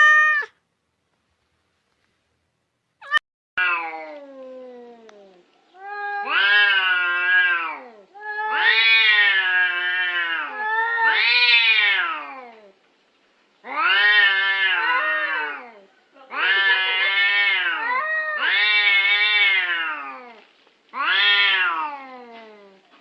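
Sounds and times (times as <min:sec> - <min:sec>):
cat yowling: 0:00.0 - 0:00.6, 0:03.0 - 0:05.2, 0:05.8 - 0:12.6, 0:13.6 - 0:22.8.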